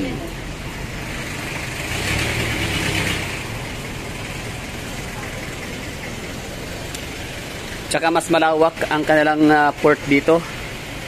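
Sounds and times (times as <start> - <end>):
car engine running: 0.0 - 11.0
outdoor traffic noise: 0.0 - 11.0.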